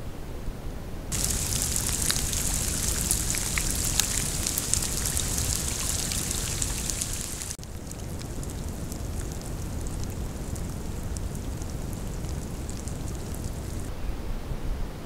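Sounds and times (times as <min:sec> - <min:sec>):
rain falling on water: 0:01.1 - 0:13.9
faint even hiss: 0:01.1 - 0:14.3.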